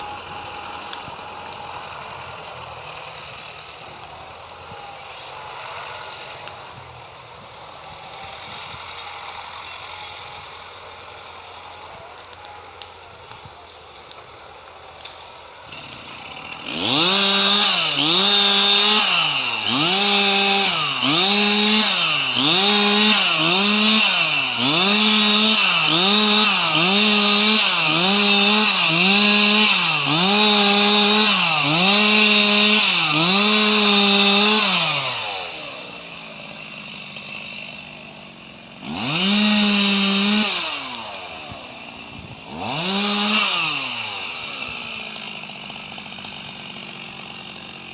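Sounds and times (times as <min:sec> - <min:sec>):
chainsaw revving: 0:00.0 - 0:47.9.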